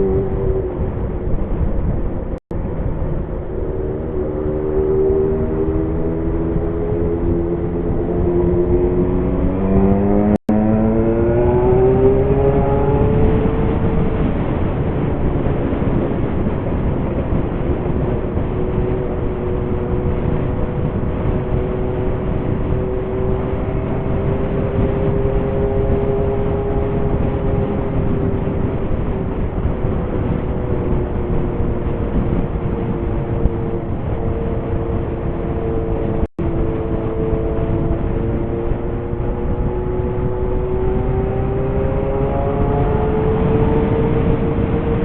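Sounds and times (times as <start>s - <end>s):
motorcycle engine cruising: 0.0s - 45.0s
wind rushing: 0.0s - 45.0s.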